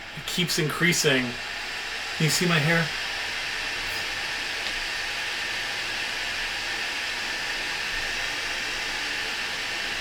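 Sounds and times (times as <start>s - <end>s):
table fan rush of air: 0.0s - 10.0s.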